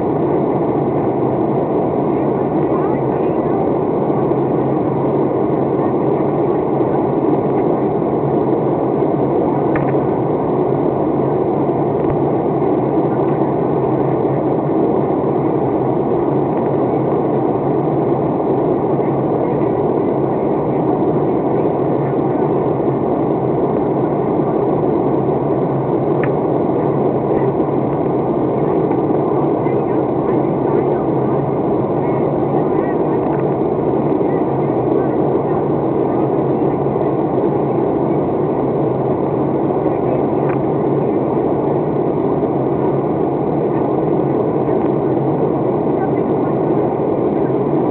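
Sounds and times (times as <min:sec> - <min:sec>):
airplane cabin engine rush: 0:00.0 - 0:47.9.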